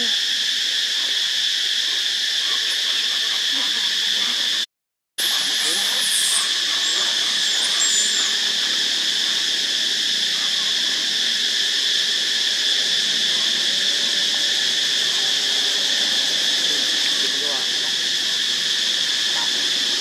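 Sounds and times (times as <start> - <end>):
forest insects buzzing: 0.0 - 20.0.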